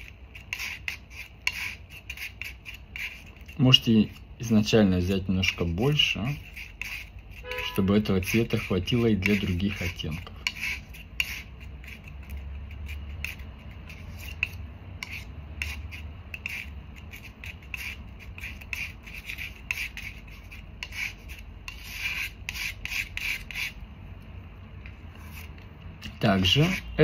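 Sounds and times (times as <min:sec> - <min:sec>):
paint scraping on a palette: 0:00.0 - 0:23.8, 0:24.8 - 0:27.0.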